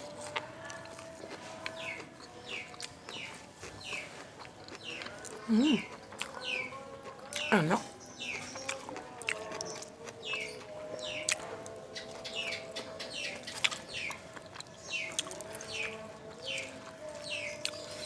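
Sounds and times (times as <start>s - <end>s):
chewing clicks: 0.1s - 7.5s, 8.2s - 17.8s.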